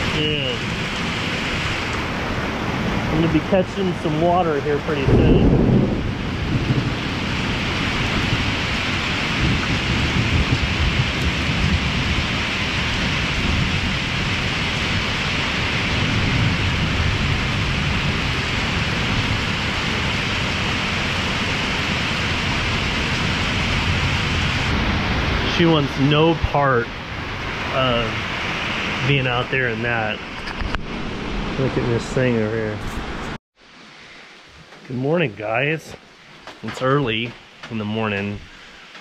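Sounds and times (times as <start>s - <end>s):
low rumble of thunder: 0.0s - 33.4s
heavy rain pouring: 0.0s - 39.0s.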